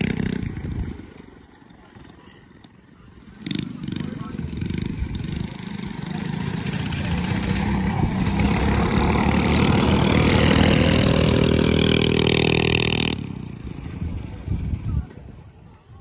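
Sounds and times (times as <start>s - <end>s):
mini bike engine running hard: 0.0s - 15.5s.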